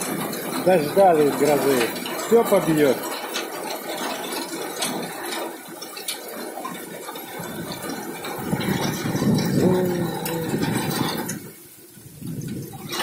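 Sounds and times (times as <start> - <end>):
hailstones ticking: 0.0 - 13.0
rain falling hard: 0.0 - 13.0.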